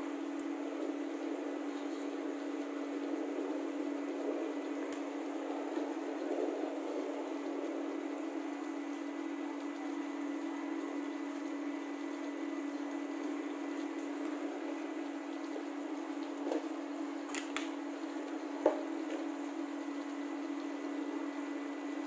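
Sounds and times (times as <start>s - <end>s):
kitchen background hum: 0.0s - 22.0s.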